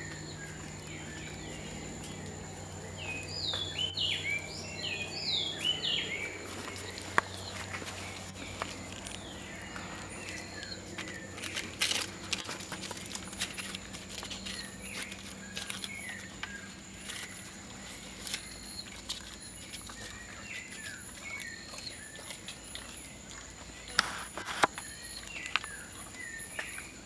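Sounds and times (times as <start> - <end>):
animal chewing: 0.0 - 27.0
animal rustling leaf litter: 0.0 - 27.0
birds chirping: 0.0 - 27.0.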